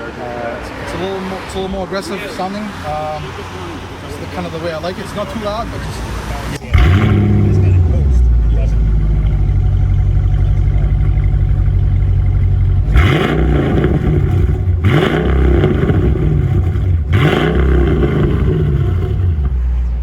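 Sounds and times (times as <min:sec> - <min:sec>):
car engine idling: 0:02.3 - 0:20.0
car engine revving: 0:02.4 - 0:20.0.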